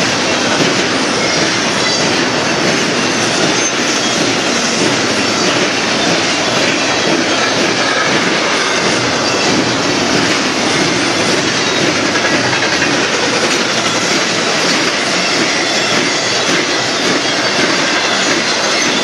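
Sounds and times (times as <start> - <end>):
steel train wheels on rails: 0.0 - 19.0.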